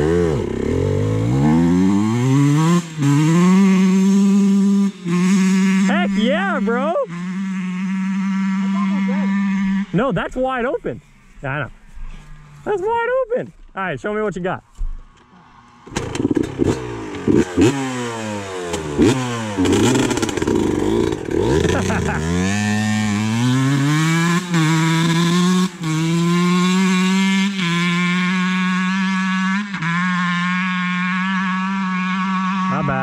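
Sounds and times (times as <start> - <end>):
dirt bike engine revving: 0.0 - 13.4, 15.0 - 33.0.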